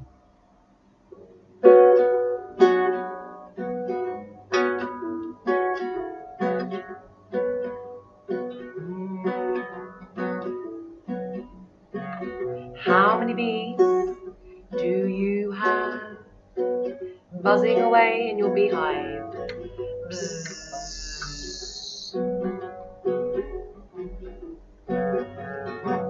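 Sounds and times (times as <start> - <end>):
chords strummed on strings: 1.6 - 26.0.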